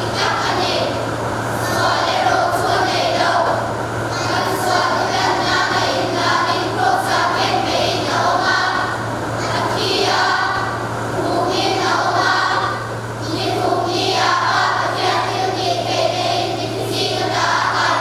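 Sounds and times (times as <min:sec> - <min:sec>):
children's choir singing: 0:00.0 - 0:18.0
steady low hum: 0:00.0 - 0:18.0.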